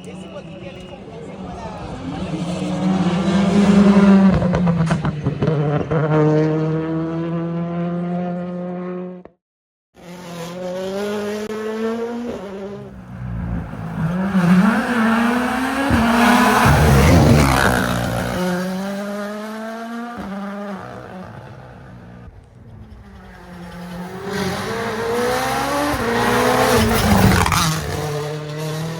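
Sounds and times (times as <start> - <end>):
rally car engine revving: 0.0 - 9.3, 10.0 - 28.9.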